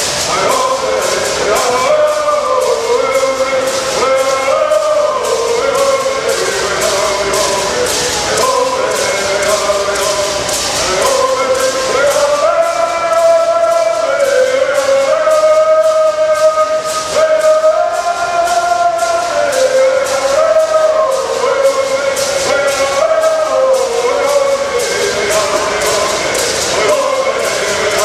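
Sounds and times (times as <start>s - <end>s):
gourd rattles shaken: 0.0s - 28.0s
people singing in unison: 0.0s - 28.0s.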